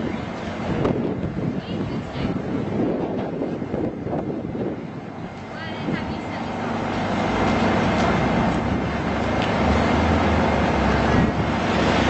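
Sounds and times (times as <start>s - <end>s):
traffic rumble: 0.0s - 12.0s
wind buffeting microphone: 0.0s - 12.0s.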